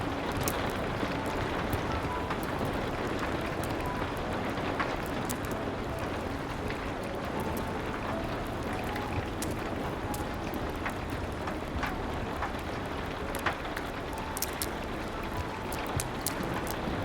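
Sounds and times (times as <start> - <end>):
rain hiss: 0.0 - 17.0
wood fire crackling: 0.0 - 17.0.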